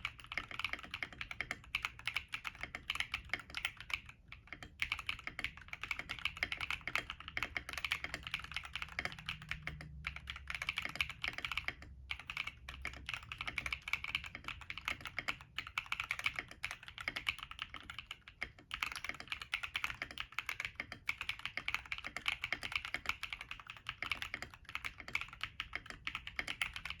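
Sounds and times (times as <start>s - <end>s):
fast mechanical keyboard typing: 0.0s - 27.0s.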